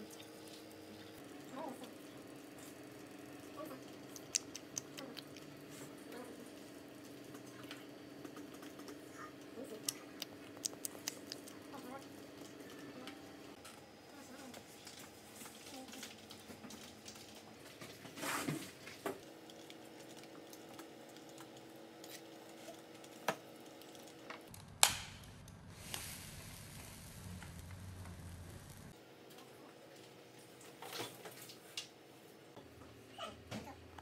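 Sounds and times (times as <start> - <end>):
steady low hum: 0.0 - 30.6.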